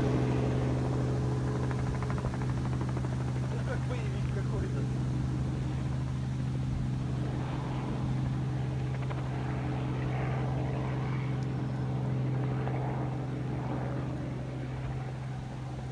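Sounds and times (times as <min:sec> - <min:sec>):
helicopter humming: 0:00.0 - 0:15.9.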